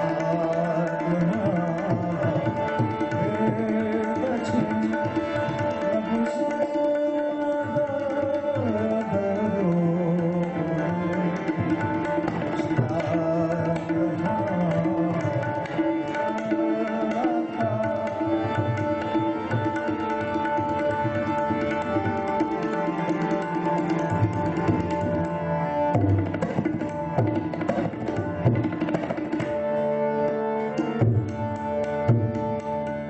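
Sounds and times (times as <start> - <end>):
harmonium melody: 0.0 - 33.0
tabla drumming: 0.0 - 33.0.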